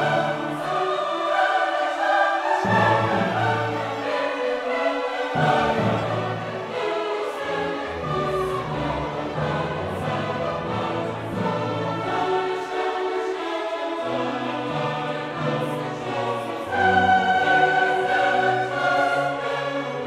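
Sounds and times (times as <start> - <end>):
choir singing held notes: 0.0 - 20.0
orchestra playing: 0.0 - 20.0.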